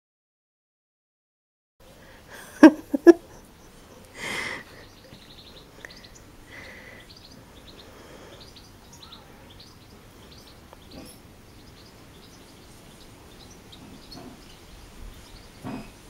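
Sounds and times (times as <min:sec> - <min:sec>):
small birds chirping: 0:01.8 - 0:16.0.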